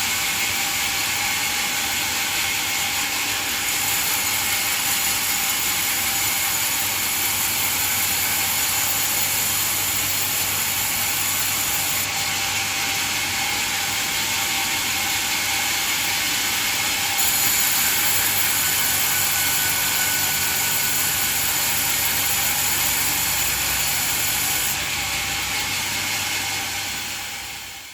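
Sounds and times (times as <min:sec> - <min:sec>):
band sawmill running: 0:00.0 - 0:27.9.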